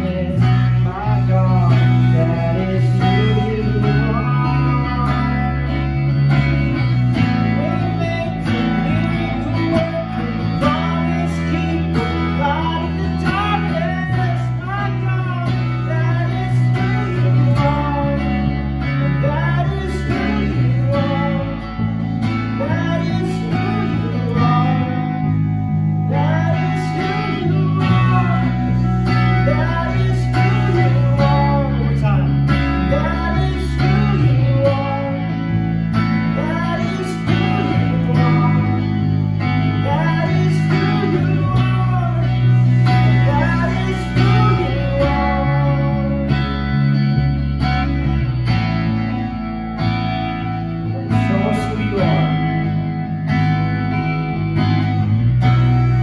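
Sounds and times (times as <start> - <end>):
worship band playing: 0.0 - 49.7
guitar: 0.0 - 56.0
held bass notes: 0.0 - 56.0.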